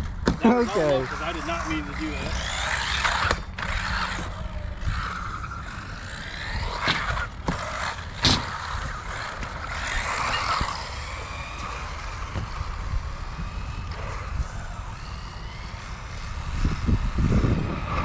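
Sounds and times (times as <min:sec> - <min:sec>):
rc car motor whining: 0:00.0 - 0:18.0.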